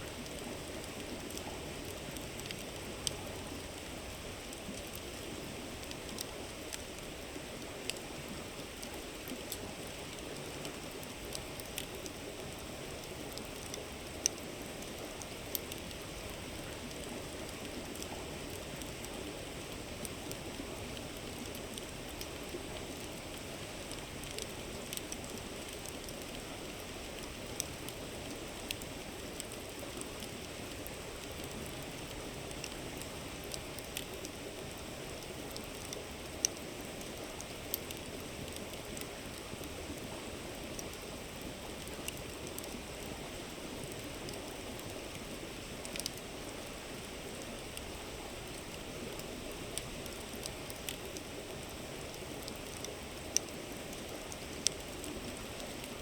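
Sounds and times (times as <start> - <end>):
campfire crackling and popping: 0.1 - 56.0.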